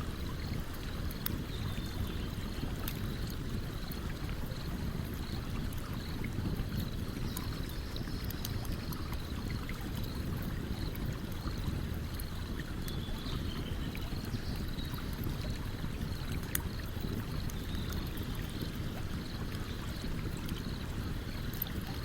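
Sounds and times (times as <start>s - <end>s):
flowing stream: 0.0s - 22.0s
campfire crackling and popping: 0.2s - 13.0s, 14.0s - 22.0s.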